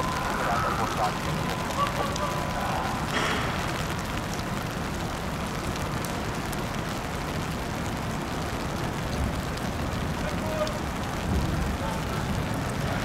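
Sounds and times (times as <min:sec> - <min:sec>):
faint raindrop ticks: 0:00.0 - 0:13.0.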